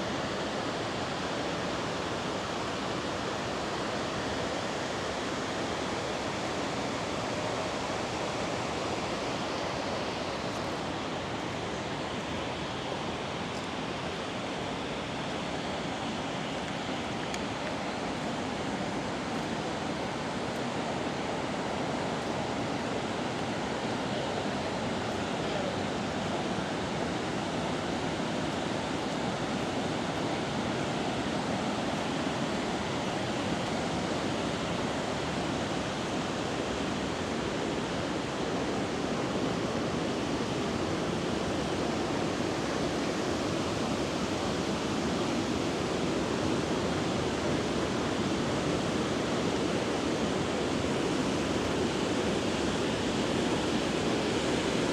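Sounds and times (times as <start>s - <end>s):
river water rushing over rocks: 0.0s - 54.9s.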